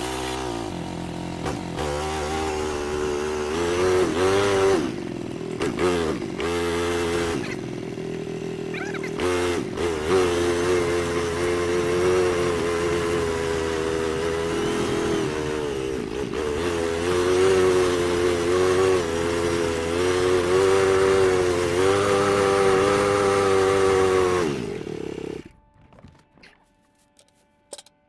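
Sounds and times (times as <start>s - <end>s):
utility vehicle engine revving: 0.0s - 26.5s.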